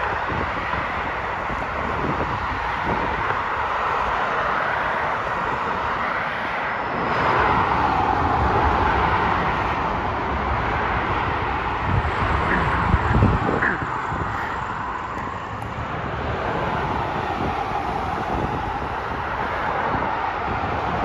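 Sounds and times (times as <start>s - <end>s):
distant engine roar: 0.0s - 21.0s
wind buffeting microphone: 0.0s - 21.0s.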